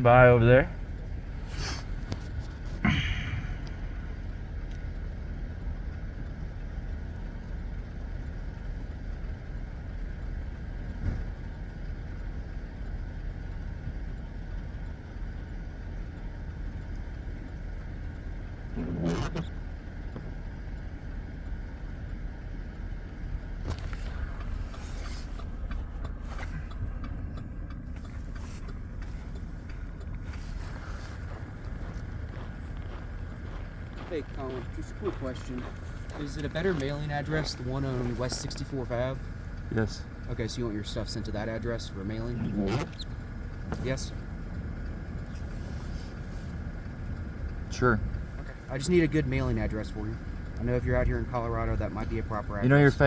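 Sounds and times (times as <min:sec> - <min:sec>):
vehicle engine idling: 0:00.0 - 0:53.0.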